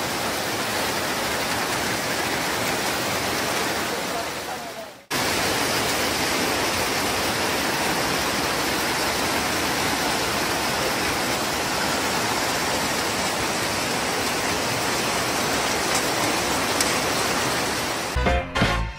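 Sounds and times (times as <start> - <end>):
heavy rain on foliage: 0.0 - 18.2.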